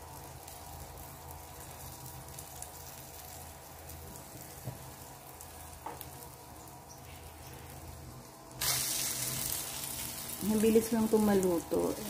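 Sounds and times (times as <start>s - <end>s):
bread sizzling in butter: 0.0s - 12.0s.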